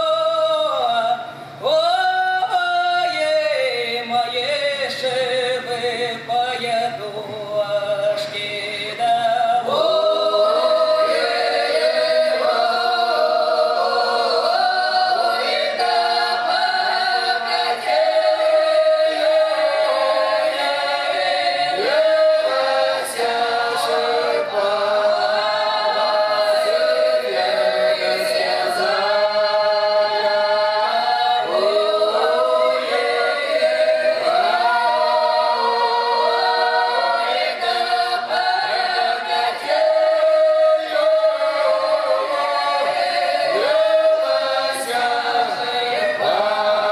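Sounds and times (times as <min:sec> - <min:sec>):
women's choir singing a cappella: 0:08.2 - 0:46.9.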